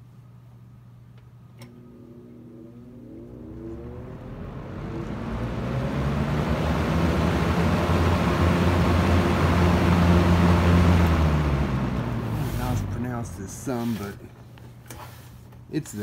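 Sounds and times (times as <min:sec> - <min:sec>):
fan air rushing: 0:00.9 - 0:16.0
box fan motor hum: 0:01.3 - 0:15.7.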